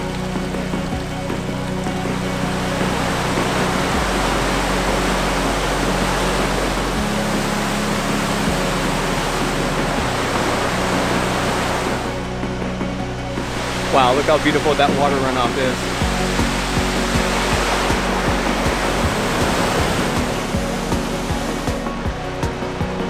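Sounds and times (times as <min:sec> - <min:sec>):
white water rushing: 0:00.0 - 0:23.0.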